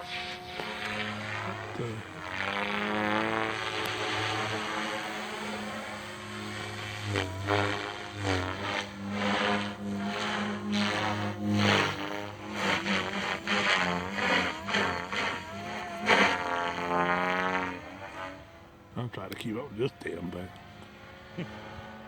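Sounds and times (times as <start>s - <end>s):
rc helicopter rotor whine: 0.0s - 22.0s
rotor blades whooshing: 0.0s - 22.0s.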